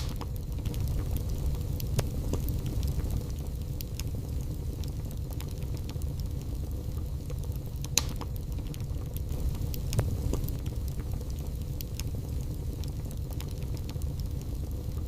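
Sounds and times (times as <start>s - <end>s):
logs crackling in a fireplace: 0.0s - 15.0s
low fire rumble: 0.0s - 15.0s.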